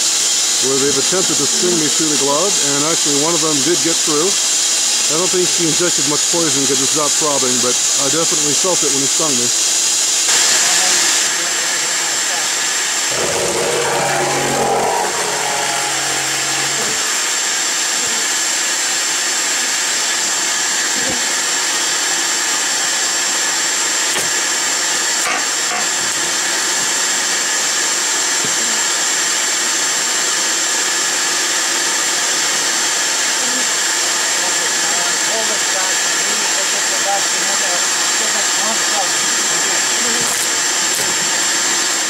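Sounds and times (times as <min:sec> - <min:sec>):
small motor whining: 0:00.8 - 0:31.2, 0:33.2 - 0:42.0.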